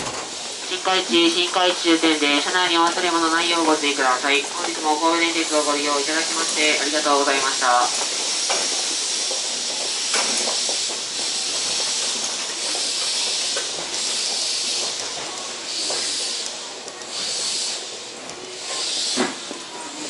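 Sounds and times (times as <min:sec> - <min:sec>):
compressed air hissing: 0:03.1 - 0:18.0, 0:18.6 - 0:20.0.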